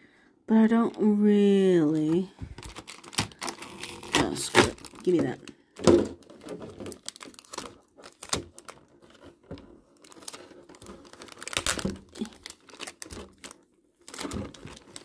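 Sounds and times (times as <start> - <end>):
plastic tray crinkling: 1.0 - 15.0.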